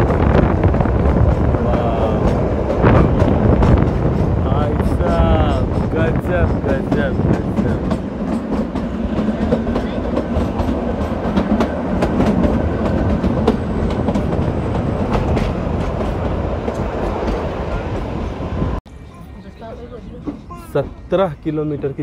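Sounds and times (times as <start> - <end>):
clickety-clack of rails: 0.0 - 18.8, 19.6 - 21.6
train wheels rumbling: 0.0 - 22.0.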